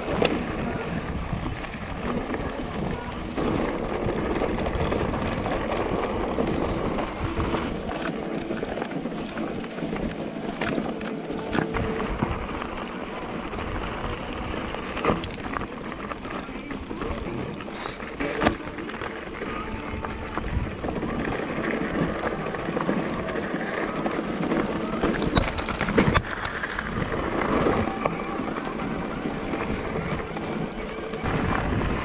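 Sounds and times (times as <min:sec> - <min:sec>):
bike tyres crunching over stones: 0:00.0 - 0:32.0.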